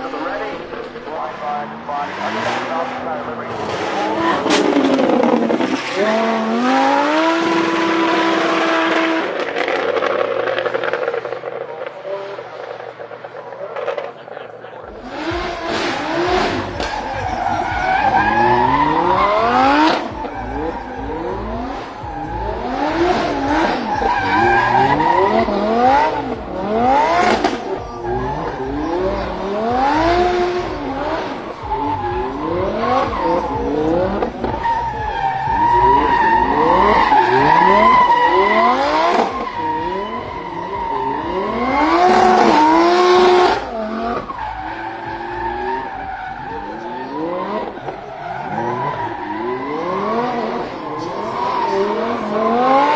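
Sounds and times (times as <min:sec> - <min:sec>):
car engine revving hard: 0:00.0 - 0:52.9
tyres squealing: 0:00.0 - 0:52.9.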